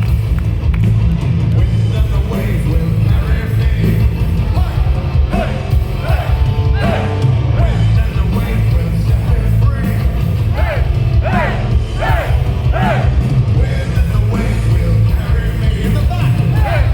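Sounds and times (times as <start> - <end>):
live rock band playing: 0.0 - 16.9
people singing: 1.9 - 16.9.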